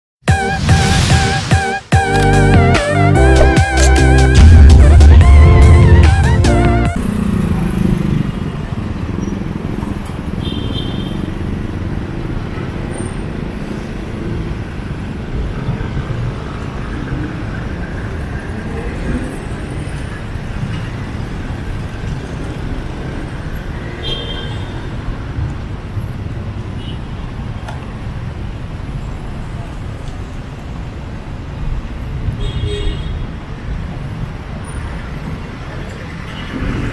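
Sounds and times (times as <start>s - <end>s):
traffic rumble: 3.2s - 36.9s.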